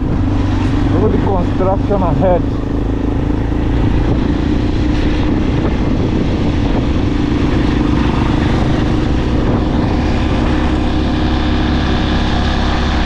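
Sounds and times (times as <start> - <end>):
motorcycle engine hum: 0.0 - 13.0.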